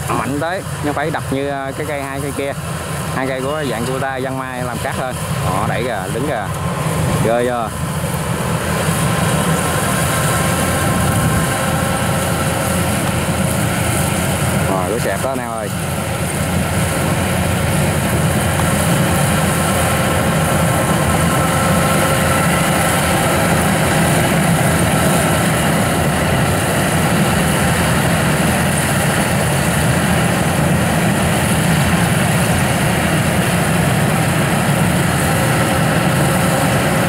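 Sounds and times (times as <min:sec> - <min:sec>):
combine harvester machine drone: 0:00.0 - 0:37.0.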